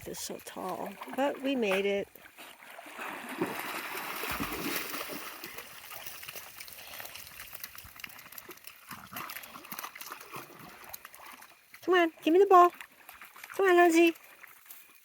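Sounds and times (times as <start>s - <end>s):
dog splashing through water: 0.0s - 15.0s.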